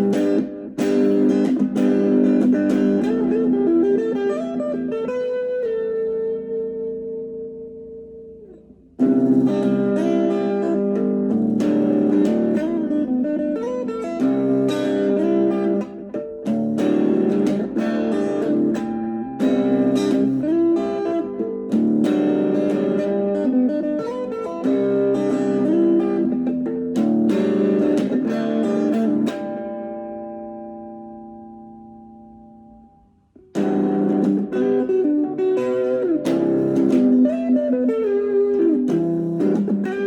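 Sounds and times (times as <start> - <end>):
plucked guitar playing: 0.0 - 40.0.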